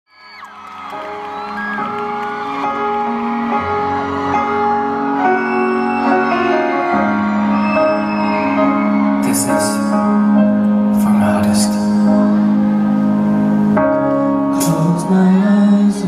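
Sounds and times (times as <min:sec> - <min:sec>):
piano and keyboard chords: 0:00.4 - 0:16.0.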